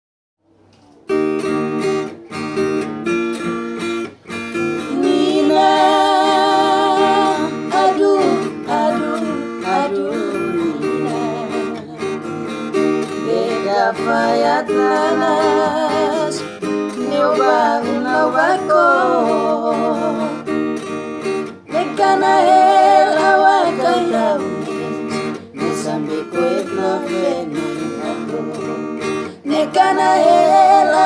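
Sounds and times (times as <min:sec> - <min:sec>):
acoustic guitar strumming: 0:01.1 - 0:31.0.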